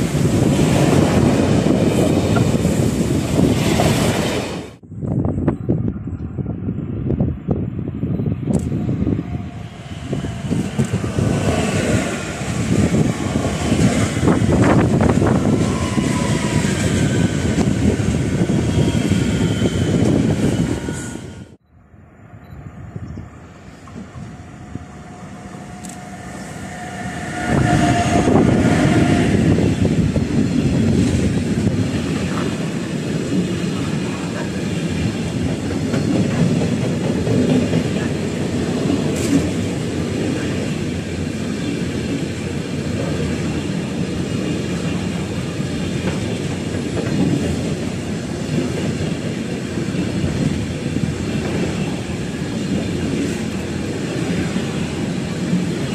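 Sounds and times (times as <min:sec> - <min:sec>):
freight train rumbling: 0:00.0 - 0:55.9.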